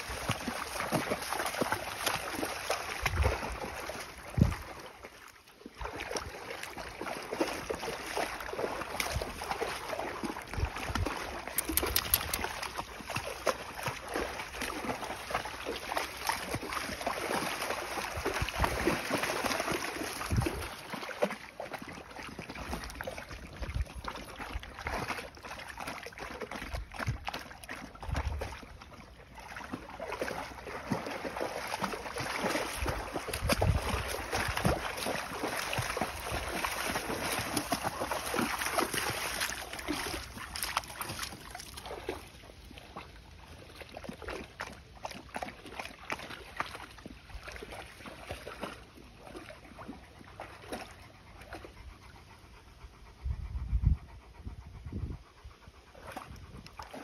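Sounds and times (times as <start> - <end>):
dogs sloshing through water: 0.0 - 57.0.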